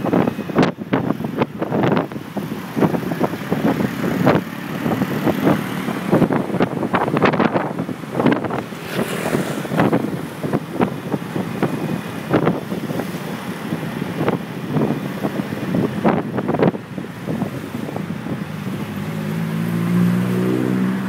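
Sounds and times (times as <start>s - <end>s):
engine noise: 0.0s - 21.0s
road traffic: 0.0s - 21.0s
wind buffeting microphone: 0.0s - 21.0s.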